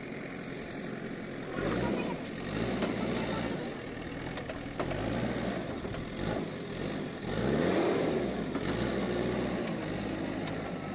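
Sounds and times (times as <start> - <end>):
diesel engine revving under load: 0.0 - 10.9.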